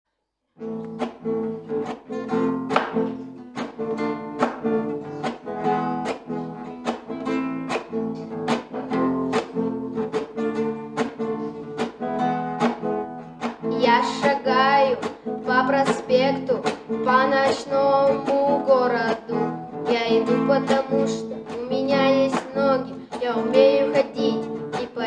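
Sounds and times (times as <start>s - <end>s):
acoustic guitar strumming: 0.6s - 25.0s.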